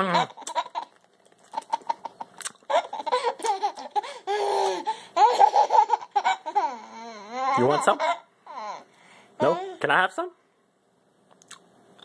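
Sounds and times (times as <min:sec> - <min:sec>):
toddler laughing: 0:00.0 - 0:09.8.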